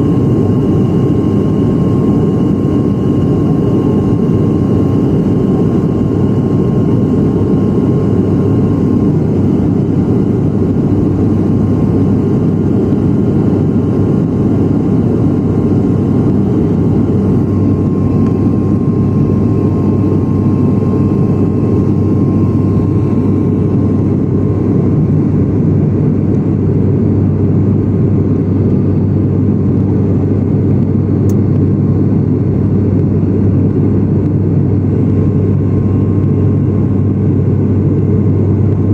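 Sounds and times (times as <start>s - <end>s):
airliner cabin rumble: 0.0s - 38.9s
faint steady whine: 0.0s - 38.9s.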